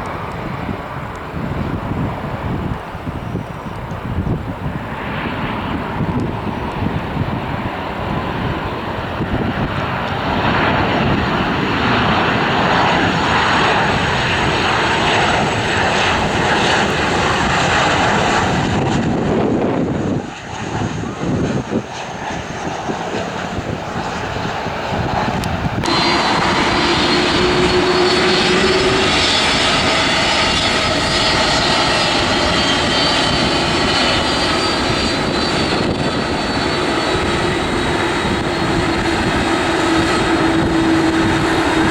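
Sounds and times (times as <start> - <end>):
airliner engines roaring: 0.0 - 41.9
jet engine high whine: 0.0 - 41.9.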